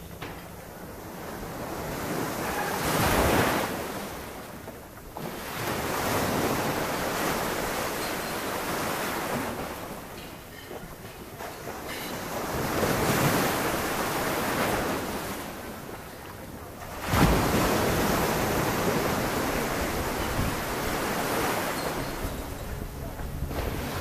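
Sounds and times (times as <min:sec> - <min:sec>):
sea waves churning against deck: 0:00.0 - 0:24.0.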